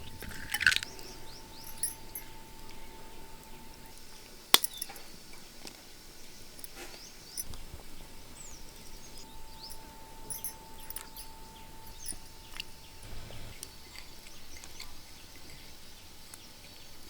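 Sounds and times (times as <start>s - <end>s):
faint steady whine: 0.0s - 17.0s
small birds chirping: 0.0s - 17.0s.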